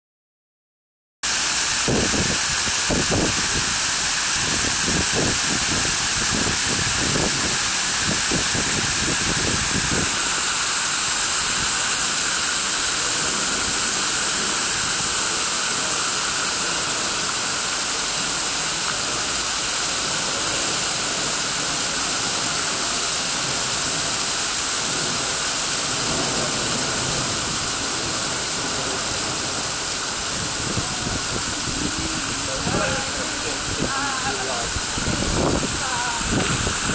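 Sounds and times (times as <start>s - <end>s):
water splashing in fountain: 1.2s - 36.9s.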